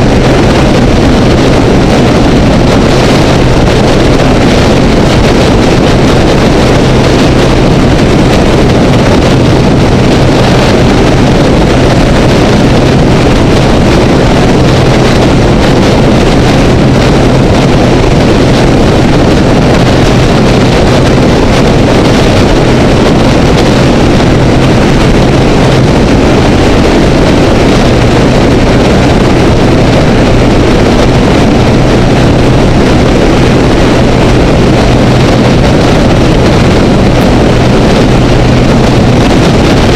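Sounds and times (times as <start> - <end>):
motorcycle engine hum: 0.0 - 39.9
wind rushing over camera: 0.0 - 39.9.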